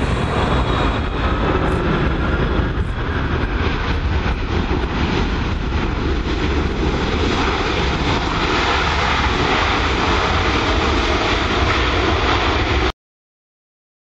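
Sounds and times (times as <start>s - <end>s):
jet engines in reverse thrust: 0.0s - 12.9s.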